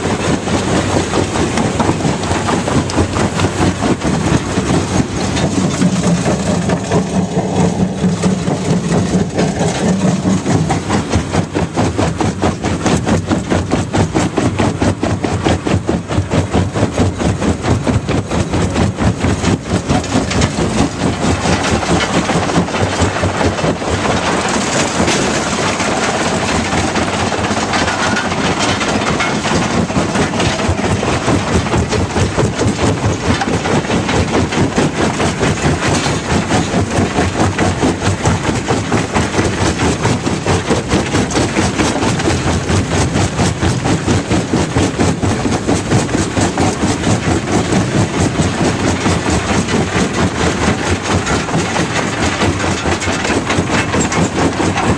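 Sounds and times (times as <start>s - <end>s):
diesel engine under load: 0.0s - 54.9s
rock grinding and knocking: 0.0s - 54.9s.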